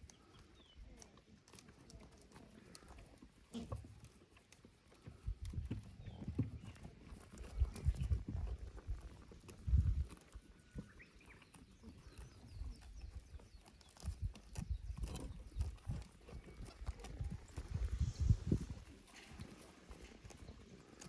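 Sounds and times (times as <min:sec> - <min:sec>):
goat hooves on wood: 0:01.9 - 0:21.0.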